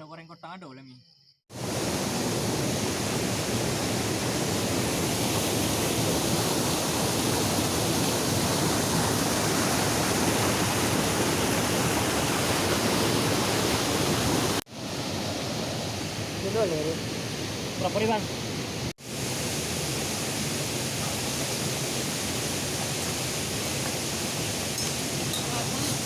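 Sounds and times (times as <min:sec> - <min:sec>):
water rushing: 0:01.5 - 0:26.0.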